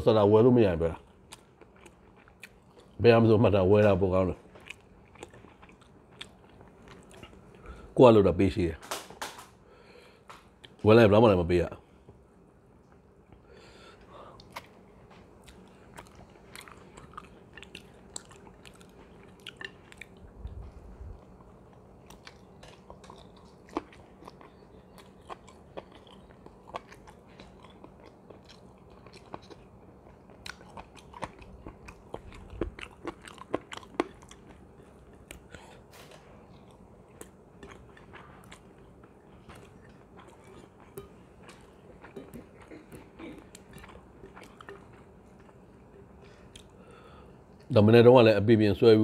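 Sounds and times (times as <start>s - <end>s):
person chewing: 1.0s - 3.0s, 4.4s - 7.8s, 12.9s - 47.7s.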